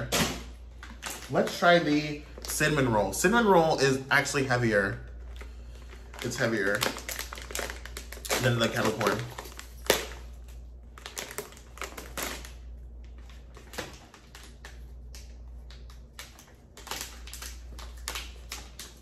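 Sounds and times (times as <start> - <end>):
snack bags crinkling: 0.8 - 3.6, 4.2 - 19.0.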